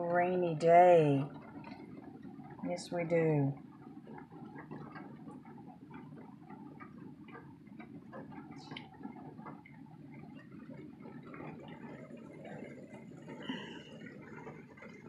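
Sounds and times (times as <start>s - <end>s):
low steady hum: 0.0s - 15.0s
raindrops tapping on bus: 0.0s - 15.0s.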